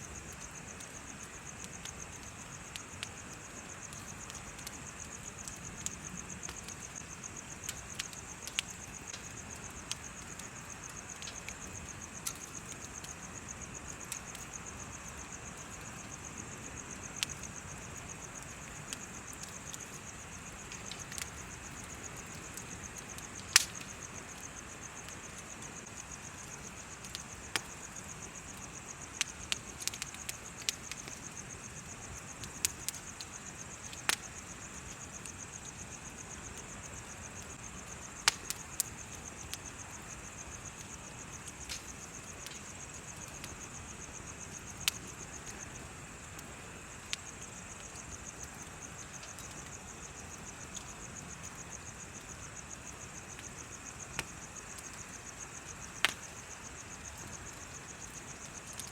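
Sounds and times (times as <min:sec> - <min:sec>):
bonfire crackling and popping: 0:00.0 - 0:58.9
insects chirping: 0:00.0 - 0:58.9.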